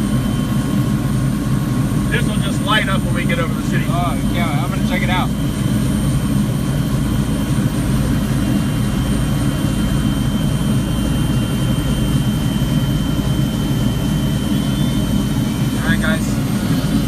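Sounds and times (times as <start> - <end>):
helicopter rotor noise: 0.0 - 17.0
high-pitched engine whine: 0.0 - 17.0.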